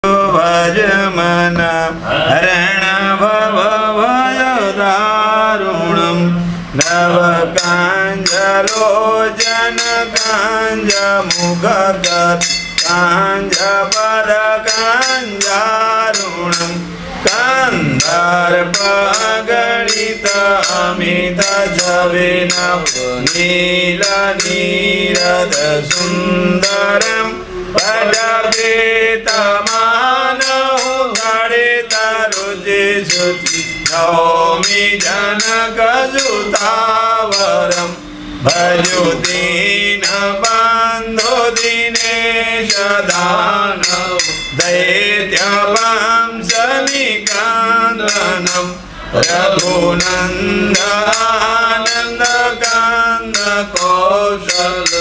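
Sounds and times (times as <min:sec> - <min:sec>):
man chanting melodically: 0:00.0 - 0:55.0.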